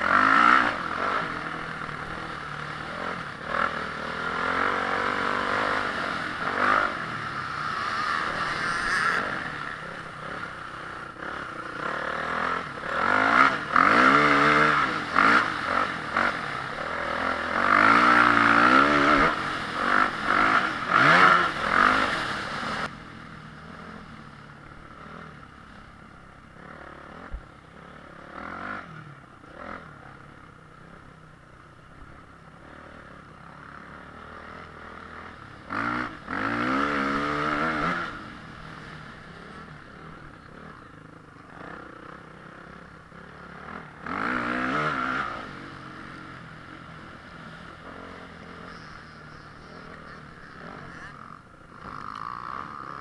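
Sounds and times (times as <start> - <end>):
motocross motorcycle engine revving: 0.0 - 53.0.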